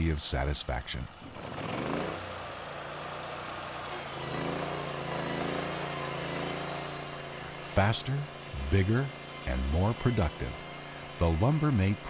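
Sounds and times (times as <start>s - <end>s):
sawmill engine running at high speed: 1.1s - 12.0s.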